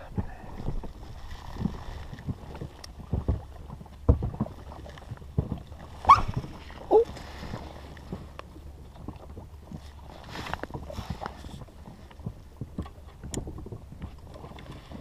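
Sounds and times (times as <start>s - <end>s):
water lapping against boat hull: 0.0s - 15.0s
wind on microphone: 0.0s - 15.0s.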